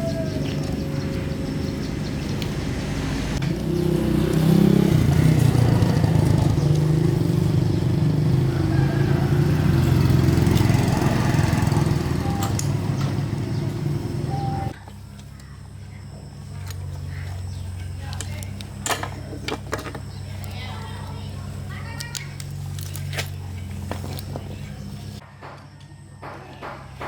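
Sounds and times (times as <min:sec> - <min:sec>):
engine running: 0:00.0 - 0:25.9.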